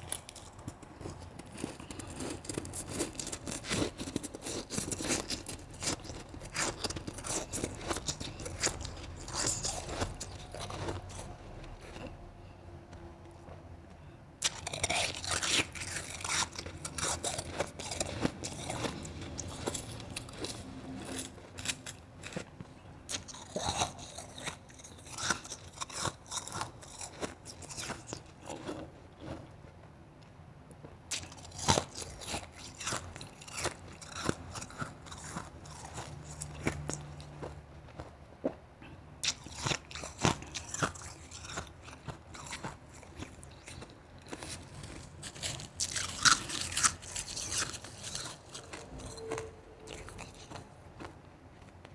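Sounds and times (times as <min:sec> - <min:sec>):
chewing crushed ice: 0:00.0 - 0:12.4, 0:14.4 - 0:29.6, 0:31.1 - 0:51.9.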